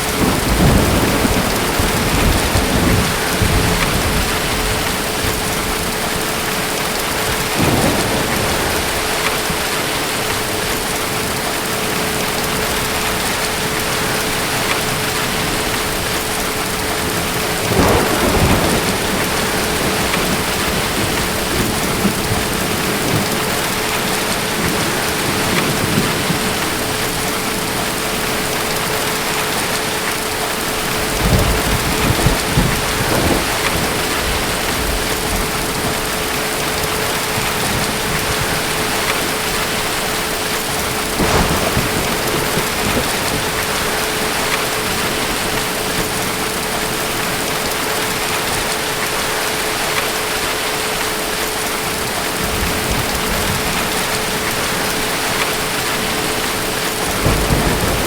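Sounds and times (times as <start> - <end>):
distant thunder rumbles: 0.0 - 48.7, 52.0 - 58.0
heavy rain: 0.0 - 58.0.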